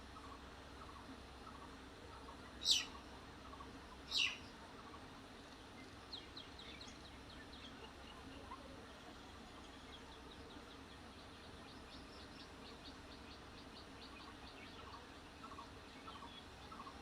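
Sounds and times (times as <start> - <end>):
faint bird chirping: 0.0 - 17.0
faint low hum: 0.0 - 17.0.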